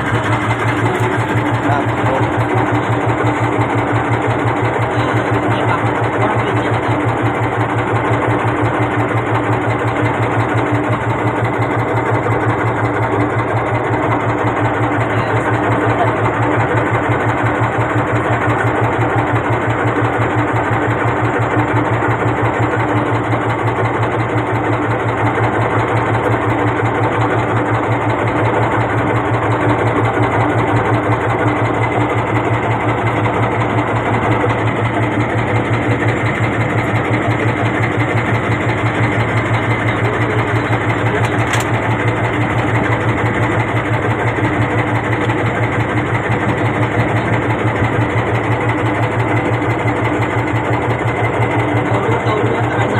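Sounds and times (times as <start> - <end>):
small boat engine running: 0.0 - 52.9.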